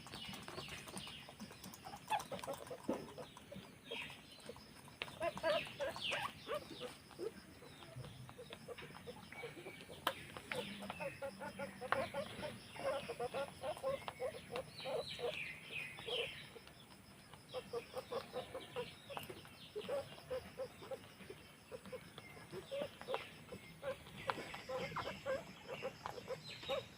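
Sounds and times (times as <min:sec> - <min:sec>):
guinea pigs squeaking: 0:00.0 - 0:16.7, 0:17.3 - 0:26.9.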